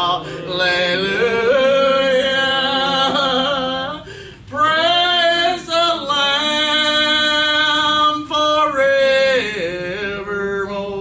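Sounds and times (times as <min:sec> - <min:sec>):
men and women singing gospel: 0:00.0 - 0:11.0.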